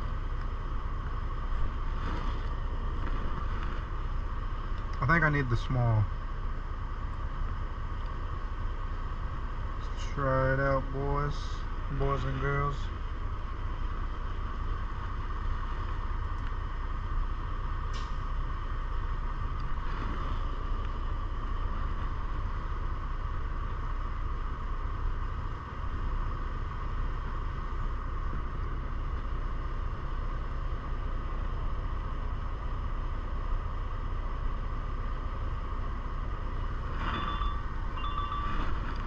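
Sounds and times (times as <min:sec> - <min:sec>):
mid-pitched hum: 0:00.0 - 0:39.0
truck cab low rumble: 0:00.0 - 0:39.0.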